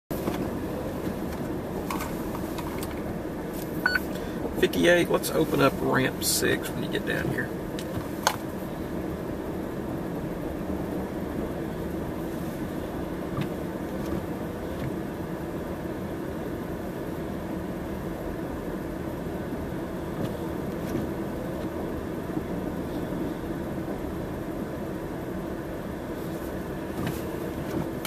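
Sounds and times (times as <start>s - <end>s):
tractor engine running: 0.1s - 28.0s.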